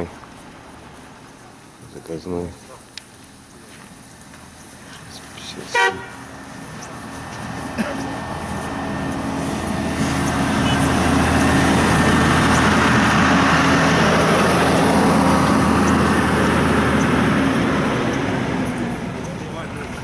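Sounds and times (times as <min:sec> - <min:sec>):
bus diesel engine hum: 0:00.0 - 0:20.0.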